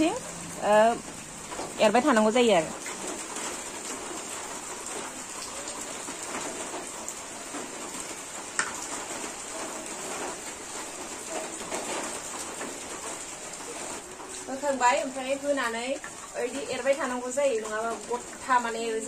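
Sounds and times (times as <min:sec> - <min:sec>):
broth simmering and crackling: 0:00.0 - 0:19.0.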